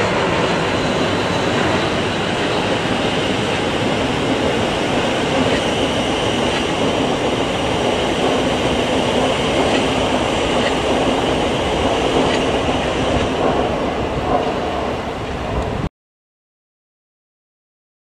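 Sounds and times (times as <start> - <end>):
train rumbling: 0.0 - 15.9.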